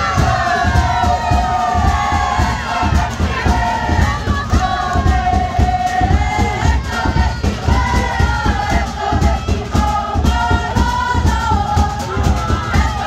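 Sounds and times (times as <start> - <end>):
group of voices singing: 0.0 - 13.0
steady beat: 0.0 - 13.0.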